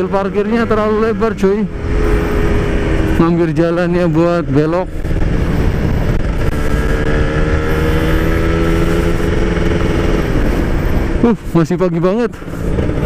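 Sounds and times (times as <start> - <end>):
wind rumble on microphone: 0.0 - 11.6, 12.4 - 13.0
two-stroke motorcycle engine: 0.0 - 13.0.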